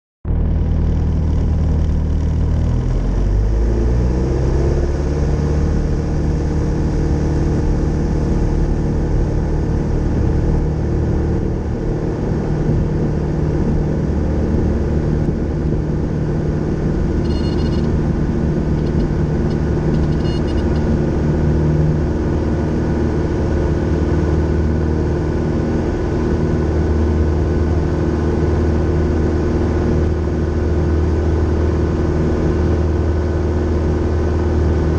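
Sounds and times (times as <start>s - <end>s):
aircraft engine and propeller: 0.3s - 34.9s.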